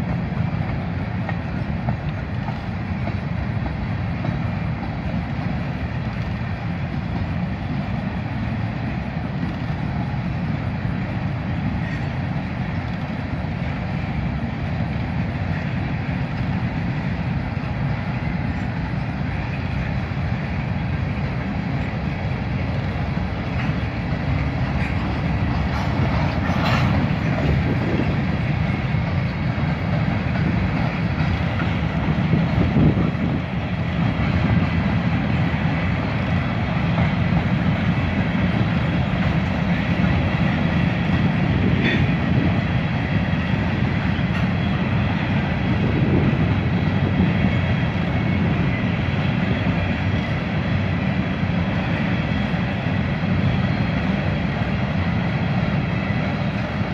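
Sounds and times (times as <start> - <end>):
freight train wheels rumbling on rails: 0.0 - 56.9.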